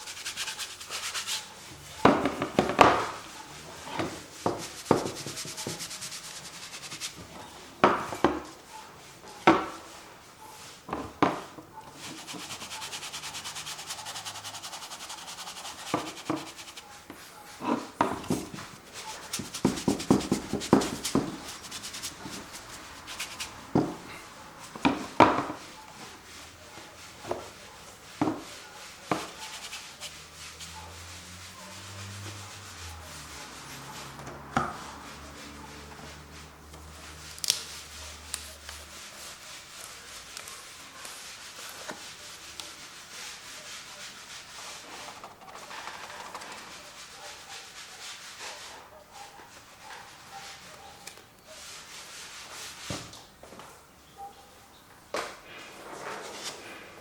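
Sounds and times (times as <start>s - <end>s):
painting tool scraping canvas: 0.0s - 8.7s, 11.9s - 53.2s, 55.3s - 57.0s.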